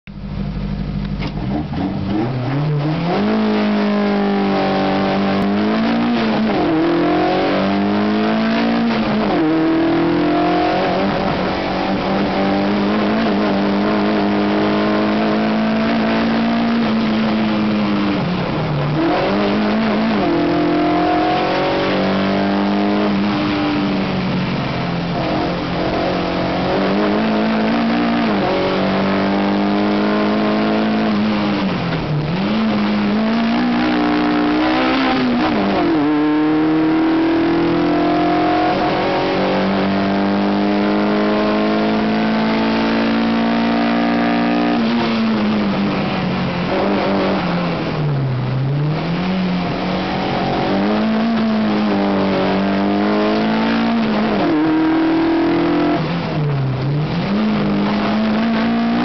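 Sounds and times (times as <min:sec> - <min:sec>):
car engine accelerating hard: 0:00.1 - 0:59.0.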